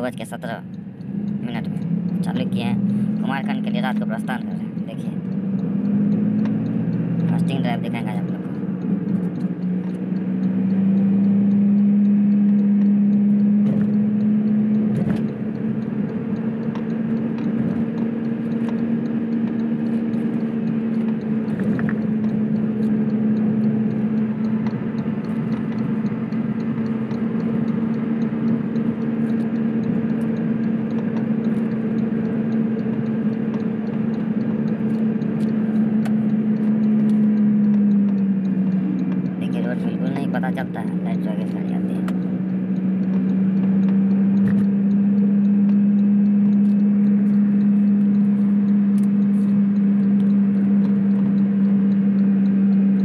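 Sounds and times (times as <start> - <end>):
car engine and tyres droning: 0.0 - 53.0.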